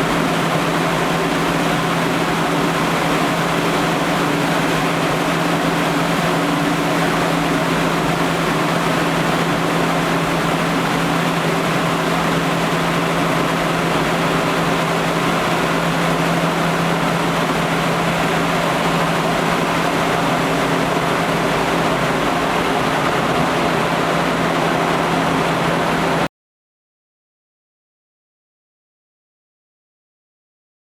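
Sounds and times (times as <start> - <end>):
industrial fan running: 0.0 - 26.3.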